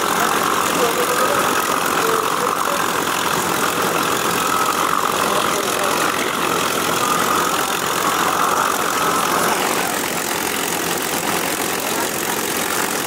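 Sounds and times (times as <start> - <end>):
piston aircraft engines idling: 0.0 - 13.0.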